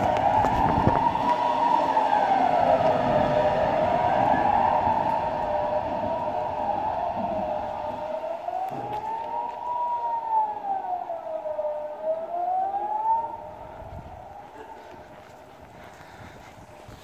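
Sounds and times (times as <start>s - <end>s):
siren wailing: 0.0s - 15.3s.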